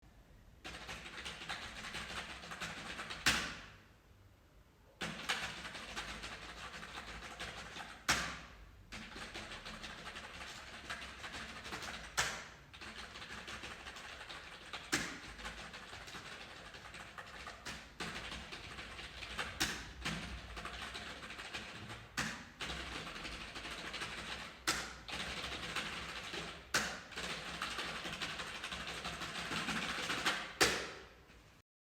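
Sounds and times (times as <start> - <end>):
fast keyboard typing: 0.6 - 3.7, 5.0 - 31.0.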